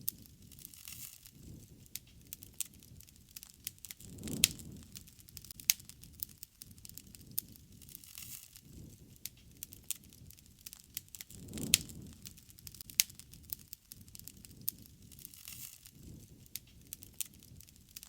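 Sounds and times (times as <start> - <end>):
campfire crackling and popping: 0.0 - 18.0
low rush of flame: 0.0 - 18.0.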